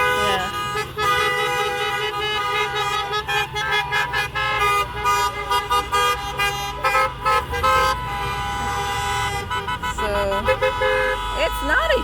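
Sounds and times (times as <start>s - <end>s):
car horns honking: 0.0s - 12.0s
low traffic rumble: 0.0s - 12.0s.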